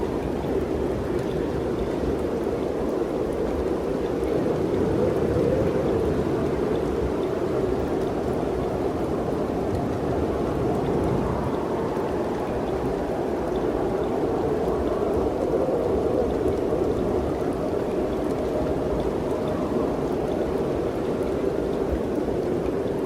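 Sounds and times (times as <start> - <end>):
wind blowing: 0.0 - 23.0.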